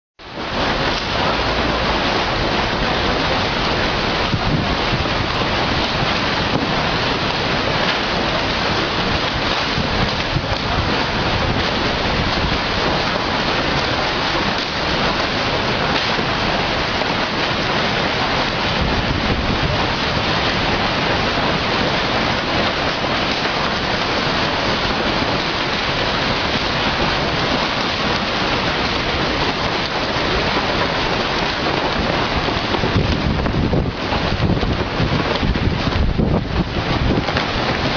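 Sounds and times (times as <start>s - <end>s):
strong storm wind blowing: 0.2s - 37.9s.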